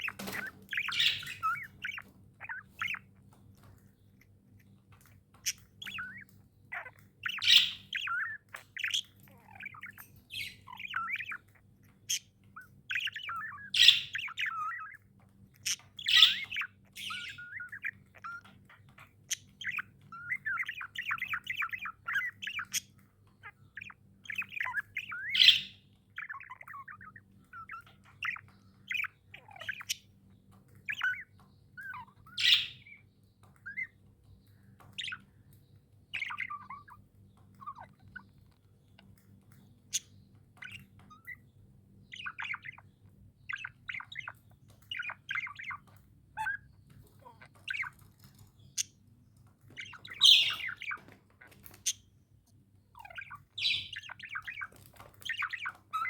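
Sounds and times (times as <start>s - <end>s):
budgerigars chirping and warbling: 0.0s - 56.0s
faint low hum: 0.0s - 56.0s.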